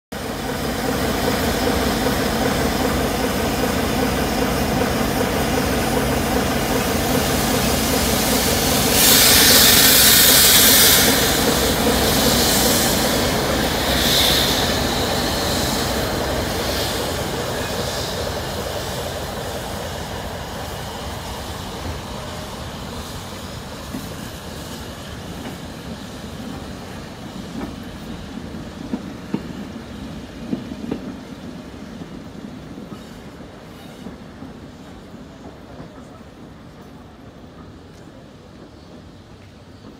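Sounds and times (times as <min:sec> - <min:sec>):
diesel locomotive engine: 0:00.1 - 0:39.9
steam hissing: 0:00.2 - 0:35.1
train wheels clicking over rail joints: 0:00.8 - 0:39.9.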